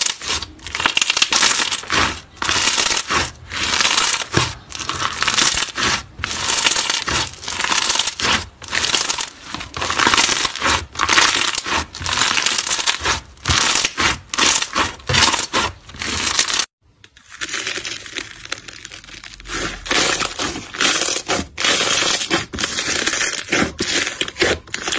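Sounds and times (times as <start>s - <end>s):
slime squishing by hand: 0.0s - 24.9s.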